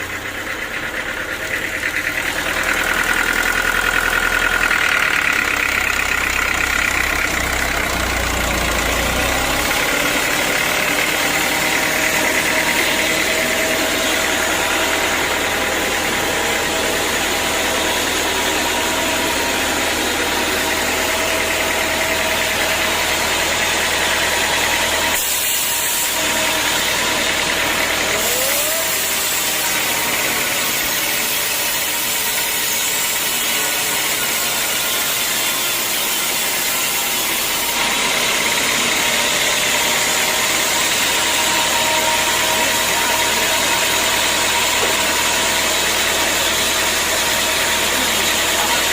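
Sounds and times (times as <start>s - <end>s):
sawmill motor and saw running: 0.0s - 48.9s.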